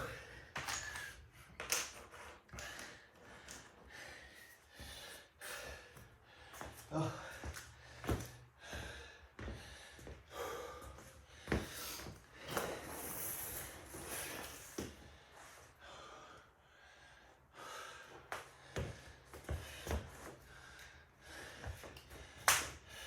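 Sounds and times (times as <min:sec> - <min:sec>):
man breathing hard and gasping: 0:00.0 - 0:01.4, 0:02.5 - 0:12.7, 0:15.0 - 0:23.0.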